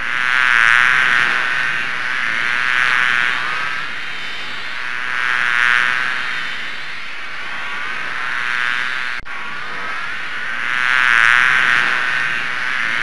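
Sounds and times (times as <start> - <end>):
flies buzzing: 0.0 - 13.0.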